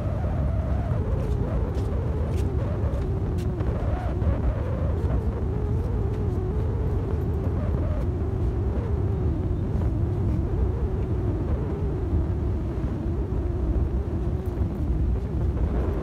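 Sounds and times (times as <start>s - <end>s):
wavering droning hum: 0.0s - 16.0s.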